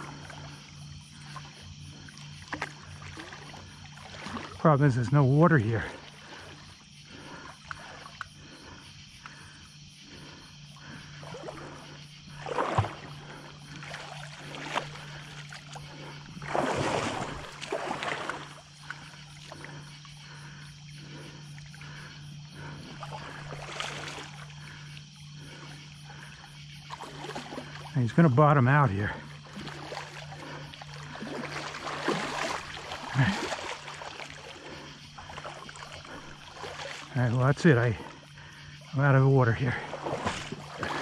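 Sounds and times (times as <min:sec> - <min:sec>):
faint steady hum: 0:00.0 - 0:41.0
water splashing: 0:00.0 - 0:41.0.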